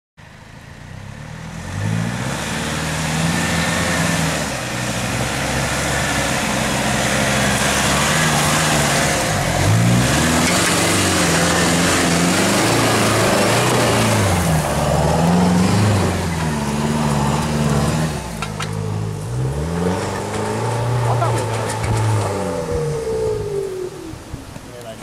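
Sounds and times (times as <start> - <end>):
engine revving under load: 1.1 - 24.5.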